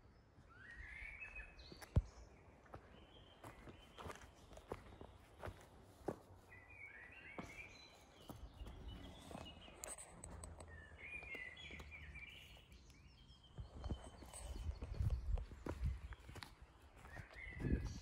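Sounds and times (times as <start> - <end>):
faint birdsong chirping: 0.0 - 18.0.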